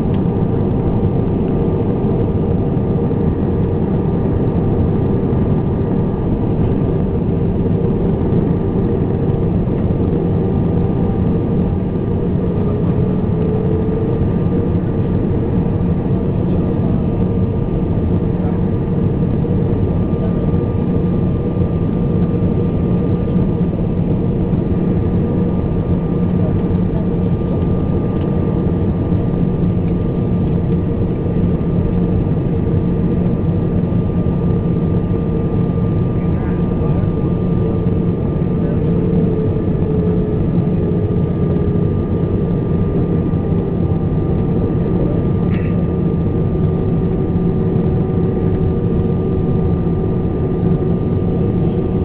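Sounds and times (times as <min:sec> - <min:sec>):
jet engines droning: 0:00.0 - 0:52.0.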